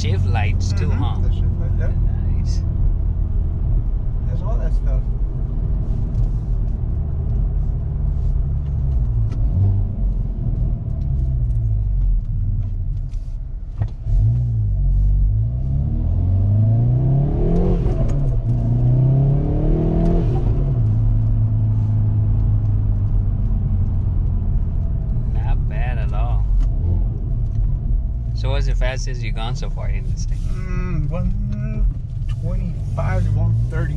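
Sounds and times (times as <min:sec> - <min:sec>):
car engine revving: 0:00.0 - 0:12.8, 0:13.8 - 0:33.9.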